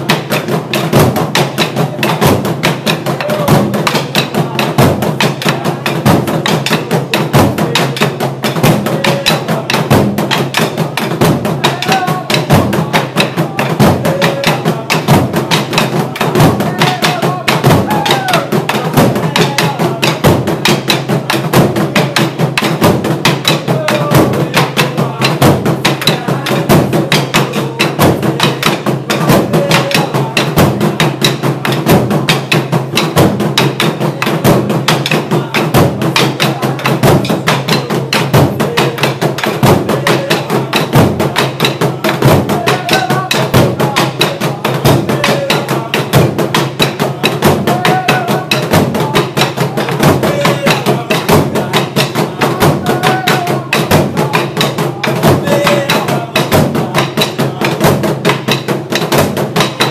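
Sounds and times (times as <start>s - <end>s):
drum ensemble fast rhythm: 0.0s - 59.9s.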